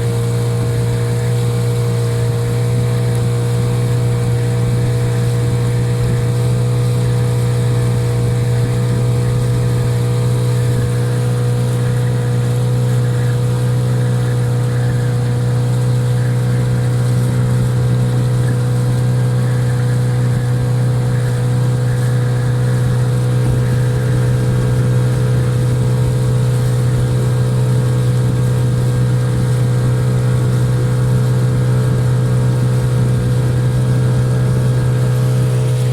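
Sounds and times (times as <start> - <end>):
outboard motor running at low revs: 0.0 - 35.9.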